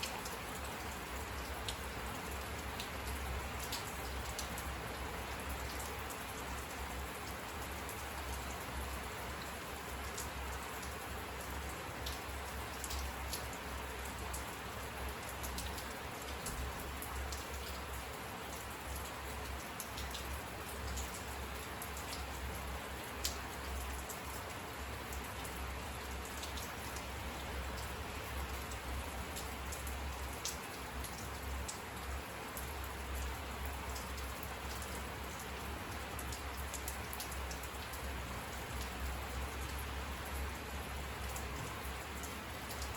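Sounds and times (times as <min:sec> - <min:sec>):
rain falling: 0:00.0 - 0:42.9
raindrops ticking close by: 0:00.0 - 0:42.9.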